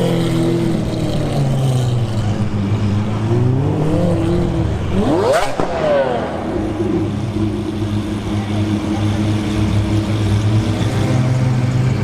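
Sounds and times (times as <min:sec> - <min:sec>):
sports car engine revving: 0:00.0 - 0:12.0.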